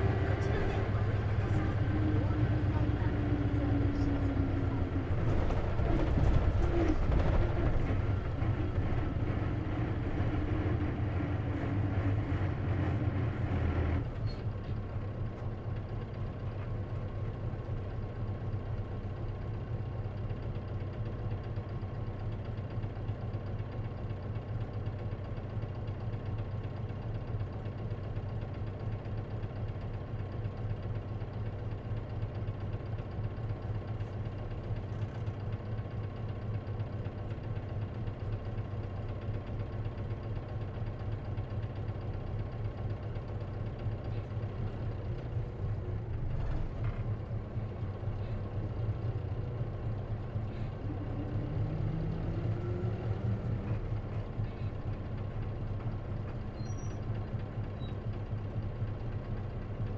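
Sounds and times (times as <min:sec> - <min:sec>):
bus engine idling: 0:00.0 - 0:59.9
bus engine running: 0:00.0 - 0:59.9.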